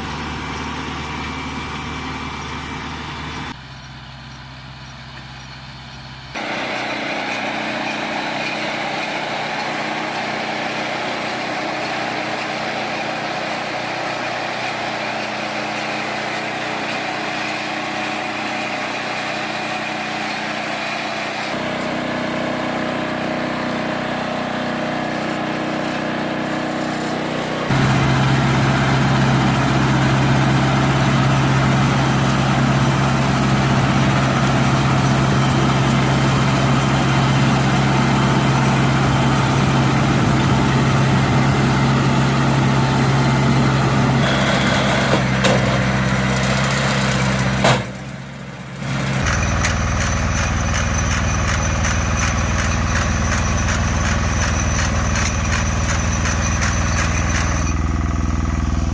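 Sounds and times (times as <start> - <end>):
hay baler machinery running: 0.0 - 58.9
tractor engine: 0.0 - 58.9.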